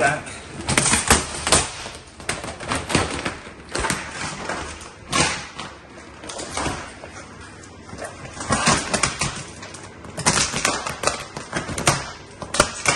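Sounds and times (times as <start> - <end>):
plastic film crinkling and rustling: 0.5 - 12.9.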